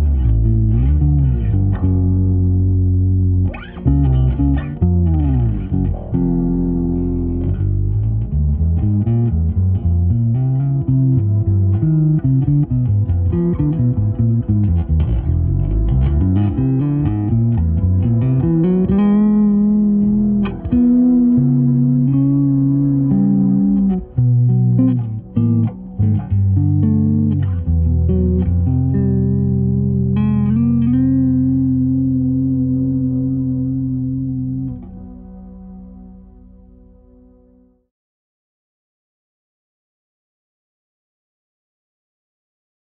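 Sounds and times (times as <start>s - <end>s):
bass guitar playing solo: 0.0s - 37.8s.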